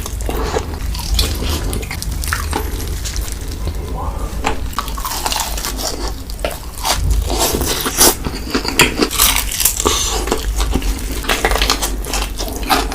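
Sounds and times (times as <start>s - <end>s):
chewing chocolate crunches: 0.0s - 12.9s
low hum: 0.0s - 12.9s.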